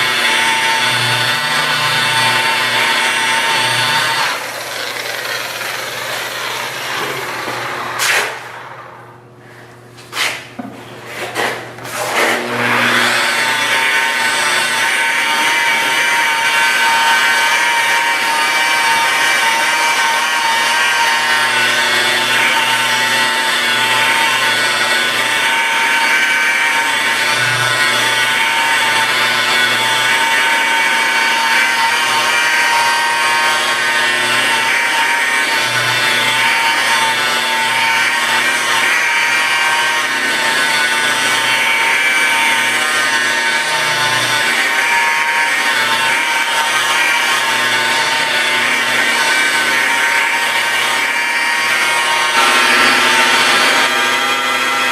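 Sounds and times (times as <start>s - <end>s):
rotary polisher motor whine: 0.0s - 9.2s, 11.3s - 54.9s.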